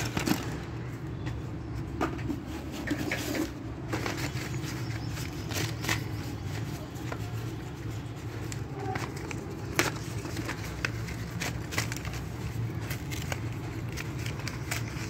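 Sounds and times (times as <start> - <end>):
plastic bag rustling: 0.0 - 1.1, 2.6 - 15.0.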